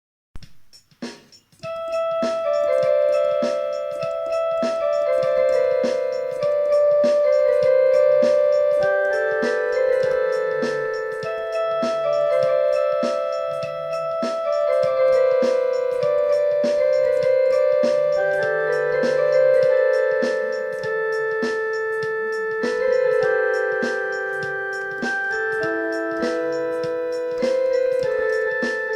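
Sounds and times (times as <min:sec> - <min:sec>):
ticking beat: 0:00.4 - 0:28.9
electric piano melody: 0:01.6 - 0:28.9.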